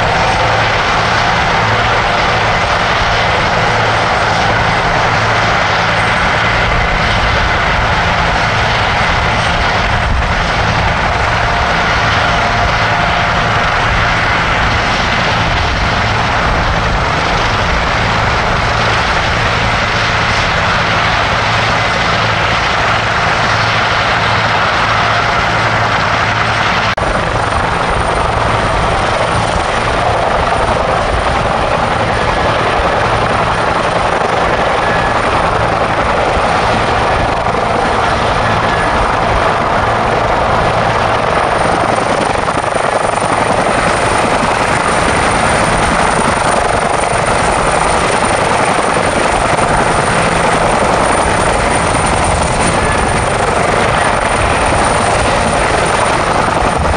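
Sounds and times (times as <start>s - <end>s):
helicopter engines and rotors: 0.0s - 56.9s
high turbine whine: 0.0s - 56.9s.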